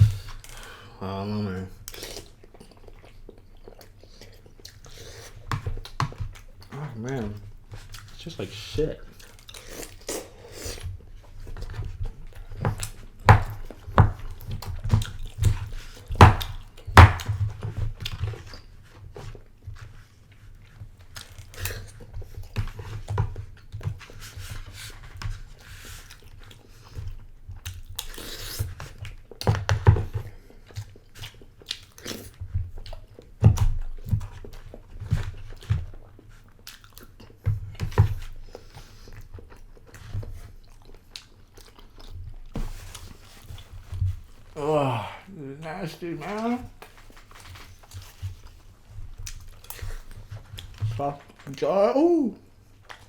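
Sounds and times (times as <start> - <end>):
person chewing: 1.7 - 51.8, 52.4 - 53.0.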